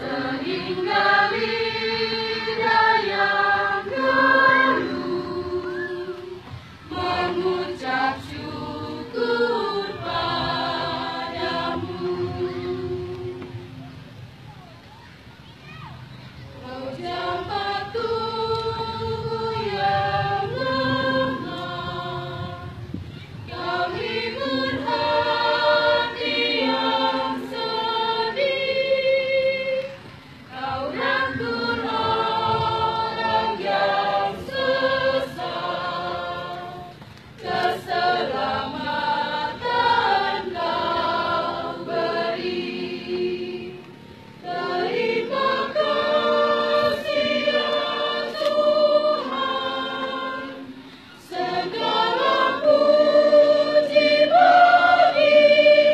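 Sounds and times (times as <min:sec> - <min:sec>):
choir singing a hymn: 0:00.0 - 0:14.0, 0:16.5 - 0:55.9.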